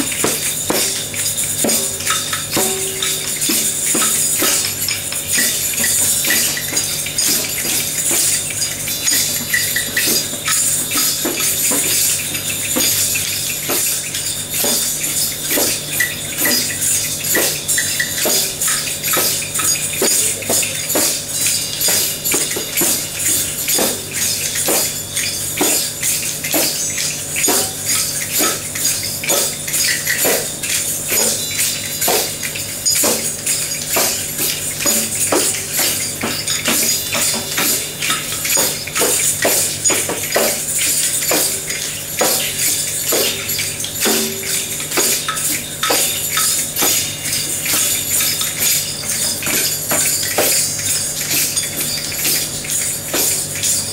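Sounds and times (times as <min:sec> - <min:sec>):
hand percussion jingling and rattling: 0:00.0 - 0:53.9.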